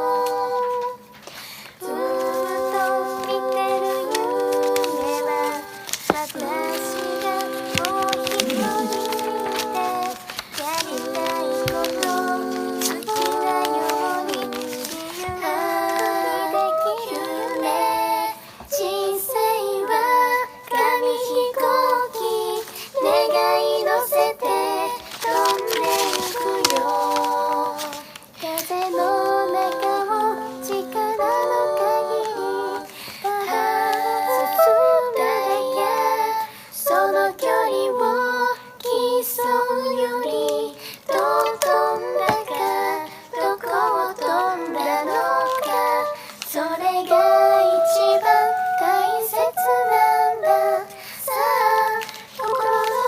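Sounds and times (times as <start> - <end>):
woman singing a cappella harmonies: 0.0 - 53.0.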